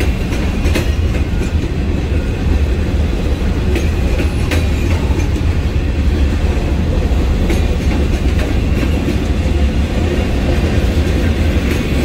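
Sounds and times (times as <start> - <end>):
wheels clacking over rail joints: 0.0 - 12.0.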